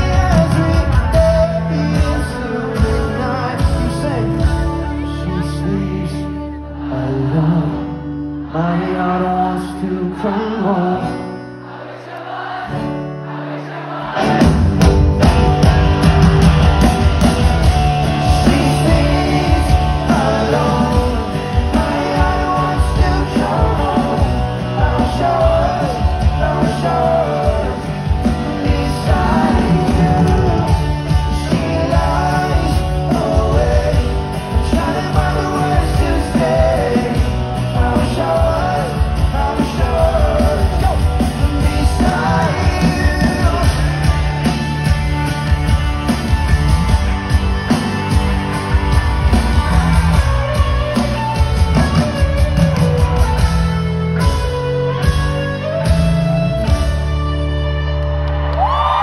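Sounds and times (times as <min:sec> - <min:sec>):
live pop-rock band with singing: 0:00.0 - 0:59.0.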